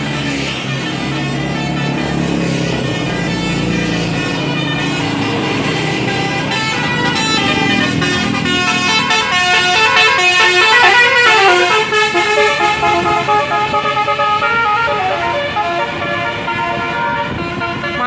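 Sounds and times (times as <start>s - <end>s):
musical bus air horn melody: 0.4s - 18.0s.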